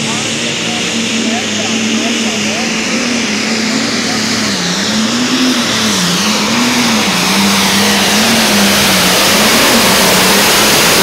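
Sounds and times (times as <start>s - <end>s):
tractor engine at full throttle: 0.0s - 11.0s.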